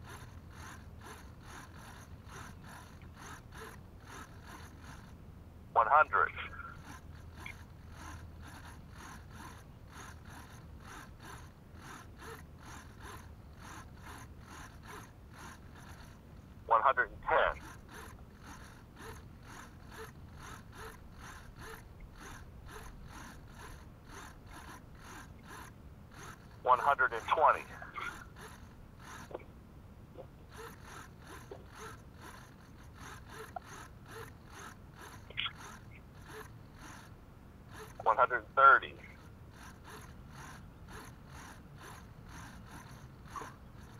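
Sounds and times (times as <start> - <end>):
small servos whirring: 0.0 - 43.9.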